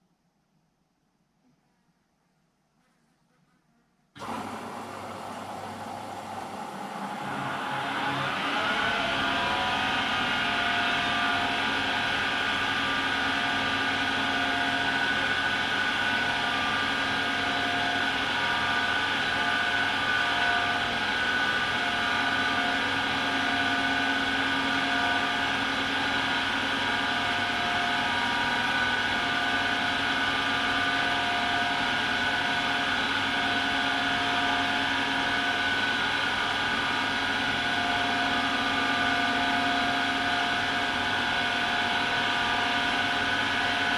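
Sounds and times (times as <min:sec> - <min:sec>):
washing machine spinning: 0:04.2 - 0:43.9.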